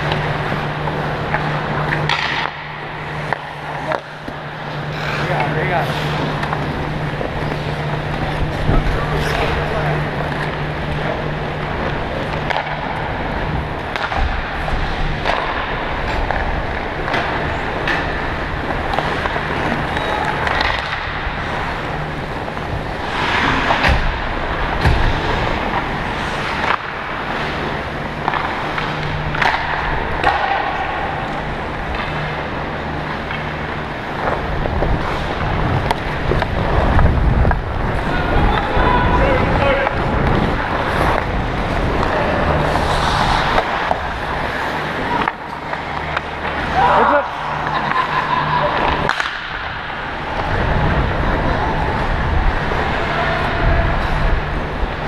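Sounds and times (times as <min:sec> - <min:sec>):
hockey sticks and puck clacking: 0:00.0 - 0:55.0
low arena hum: 0:00.0 - 0:55.0
skate blades scraping ice: 0:00.0 - 0:55.0.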